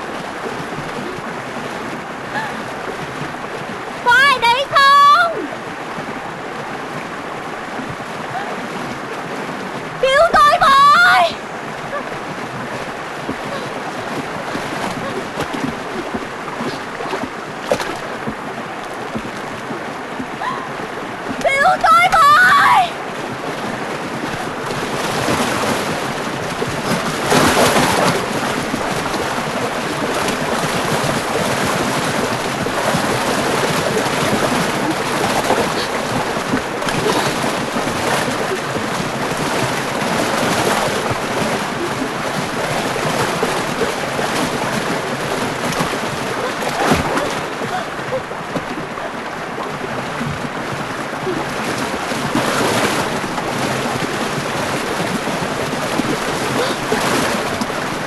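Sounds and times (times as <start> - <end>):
water rushing and churning: 0.0 - 58.0.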